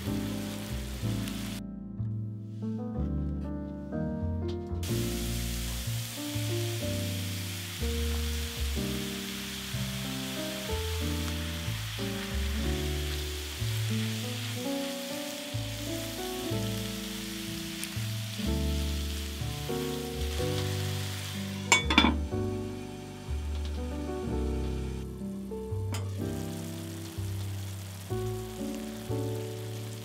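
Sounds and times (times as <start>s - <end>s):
food sizzling in a pan: 0.0s - 1.6s, 4.8s - 30.0s
background music of held notes: 0.0s - 30.0s.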